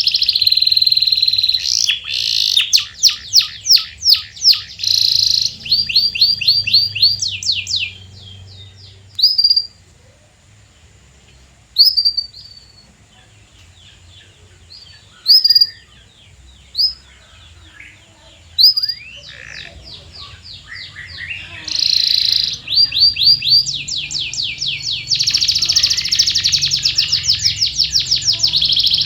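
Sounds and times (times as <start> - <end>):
canary trilling and chirping: 0.0 - 9.8, 11.8 - 29.0
faint twittering: 0.0 - 29.0.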